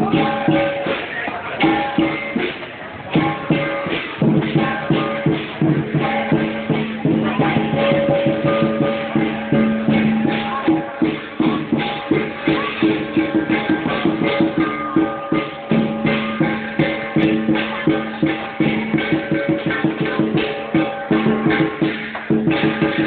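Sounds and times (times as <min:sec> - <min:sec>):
cymbals clashing: 0:00.0 - 0:23.0
drum beaten fast: 0:00.0 - 0:23.0
gong ringing: 0:03.1 - 0:23.0.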